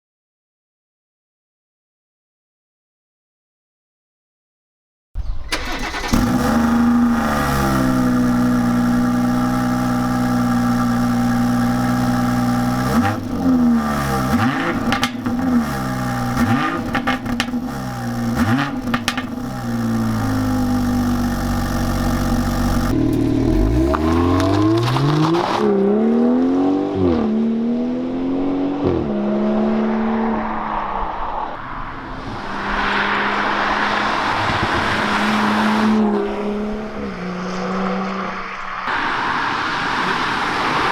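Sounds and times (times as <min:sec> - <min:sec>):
car engine idling and revving: 0:05.5 - 0:40.9.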